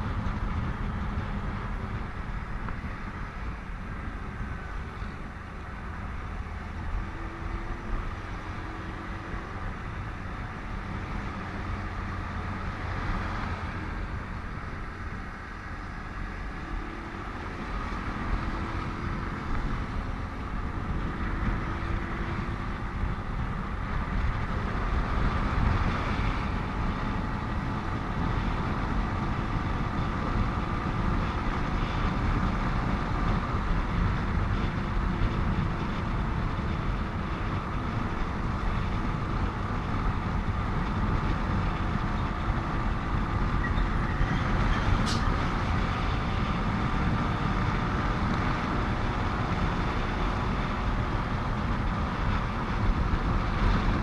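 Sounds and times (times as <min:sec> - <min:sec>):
heavy vehicles in traffic: 0:00.0 - 0:54.0.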